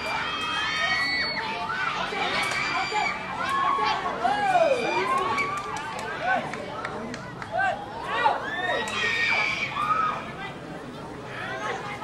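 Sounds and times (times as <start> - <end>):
young voices shouting and cheering: 0.0 - 6.6, 7.2 - 10.6.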